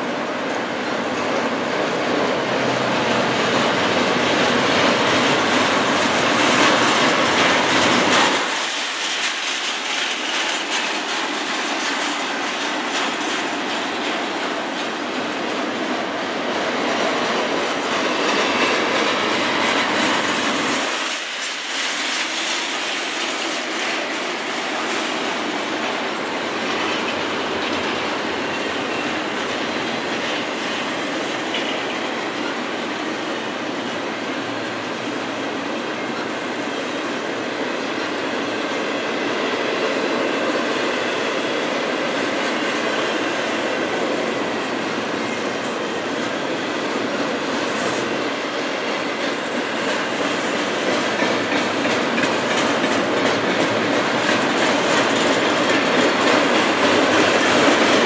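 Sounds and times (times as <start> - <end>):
steel wheels rushing on rail: 0.0 - 58.0.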